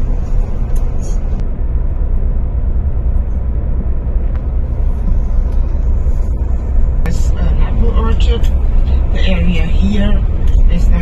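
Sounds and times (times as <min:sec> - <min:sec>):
coach engine and road noise: 0:00.0 - 0:11.0.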